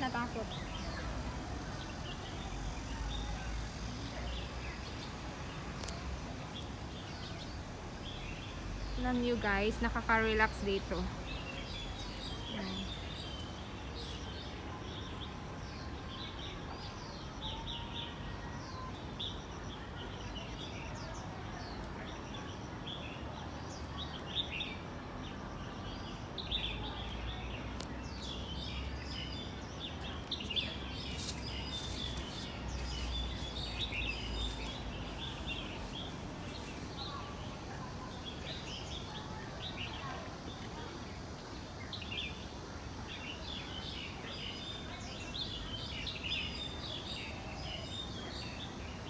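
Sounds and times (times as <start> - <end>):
outdoor background hiss: 0.0 - 49.0
small birds chirping: 0.0 - 49.0.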